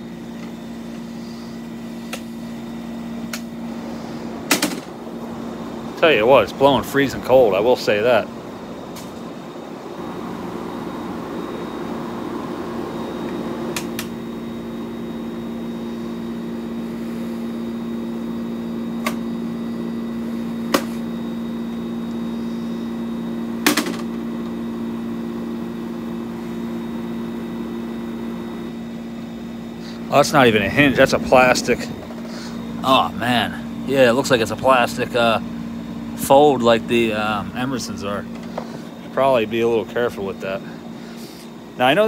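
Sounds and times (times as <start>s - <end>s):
air conditioner running: 0.0s - 42.0s.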